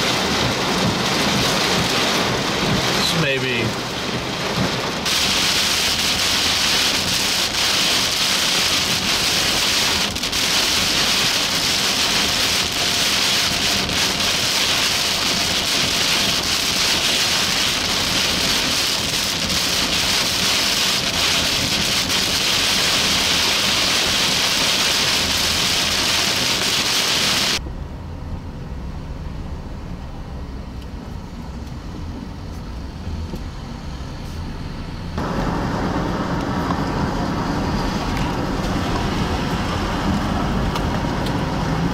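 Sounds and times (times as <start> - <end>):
heavy rain on car roof: 0.0 - 27.6, 35.2 - 41.9
tyres hissing on wet road: 0.0 - 27.6, 34.1 - 41.9
highway traffic noise: 0.0 - 41.9
vehicle rumble: 0.0 - 41.9.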